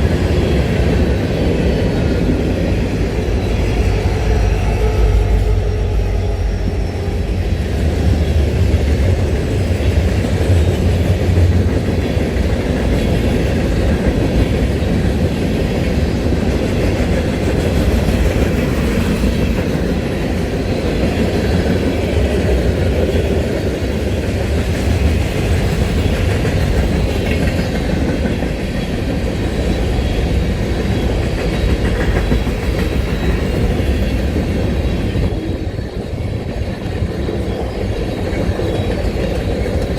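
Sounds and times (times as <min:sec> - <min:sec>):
train rumbling past: 0:00.0 - 0:39.9
wheels clacking over rail joints: 0:07.6 - 0:39.9.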